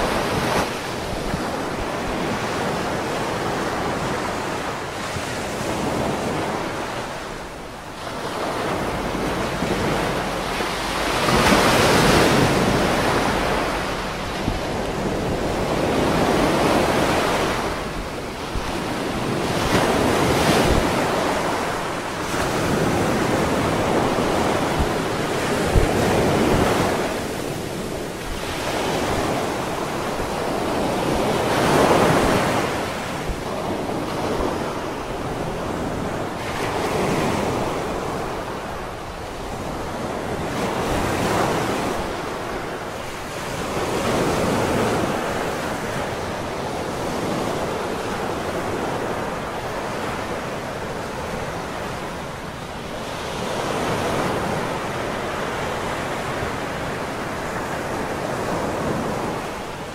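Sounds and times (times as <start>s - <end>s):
surf breaking on beach: 0.0s - 59.9s
wind buffeting microphone: 0.0s - 59.9s.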